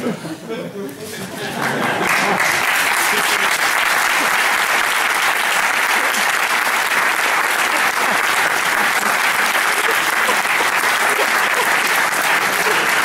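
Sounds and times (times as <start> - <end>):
audience applause: 1.6 - 13.0.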